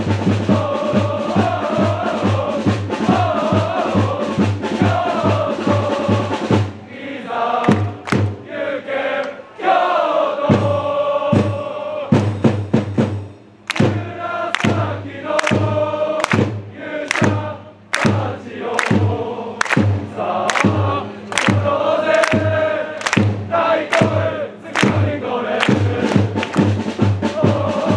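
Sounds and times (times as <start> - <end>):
big drum beating: 0.0 - 6.8, 7.6 - 8.6, 10.5 - 27.9
crowd chanting in unison: 0.0 - 12.3, 13.7 - 27.9.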